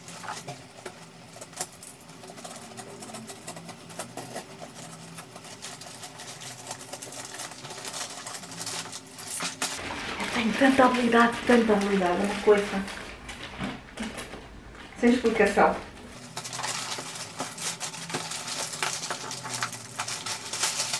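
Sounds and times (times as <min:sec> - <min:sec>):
paper crinkling: 0:00.0 - 0:20.9.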